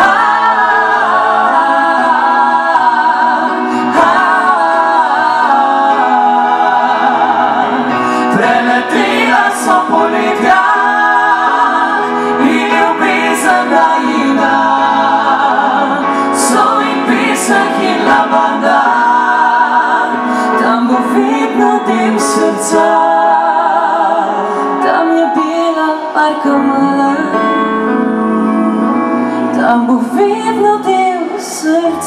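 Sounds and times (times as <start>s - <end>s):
vocal group singing a cappella: 0.0s - 32.0s.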